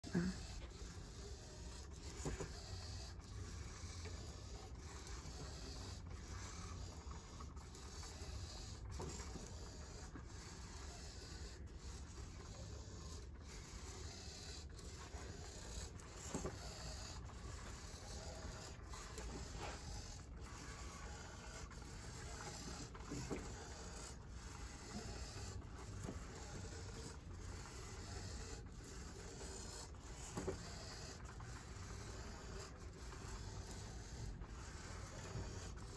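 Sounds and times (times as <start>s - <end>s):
robot joint motors whirring: 0.0s - 35.9s.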